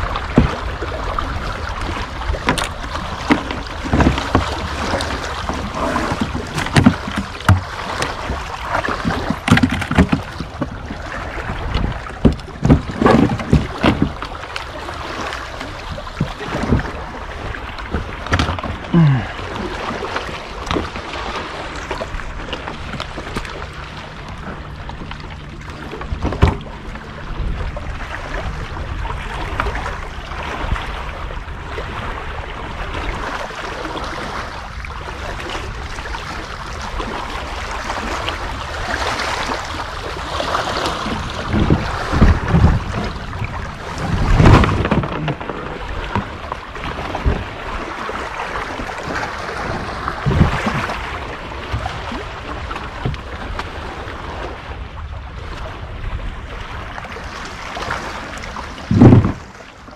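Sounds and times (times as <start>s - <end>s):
kayak knocks and thumps: 0.0s - 53.9s, 57.0s - 59.9s
wind buffeting microphone: 0.0s - 59.7s
water sloshing on shore: 0.0s - 59.9s.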